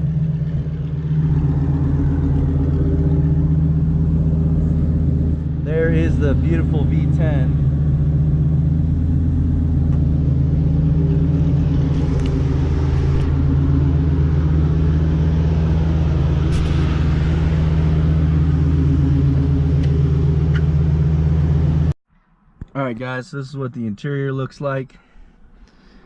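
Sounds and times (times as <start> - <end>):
car engine idling with loud rumble: 0.0 - 22.0.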